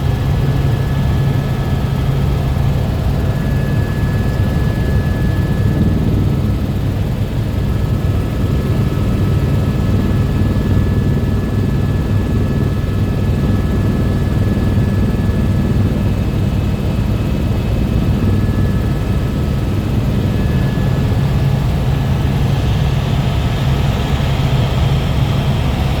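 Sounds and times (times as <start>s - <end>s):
helicopter rotor chopping: 0.0s - 26.0s.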